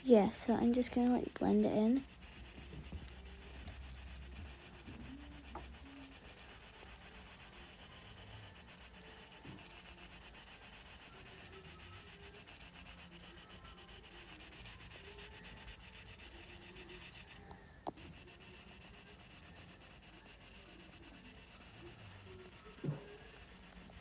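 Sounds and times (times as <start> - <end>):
rubbing strokes on a touchscreen: 0.0 - 24.0.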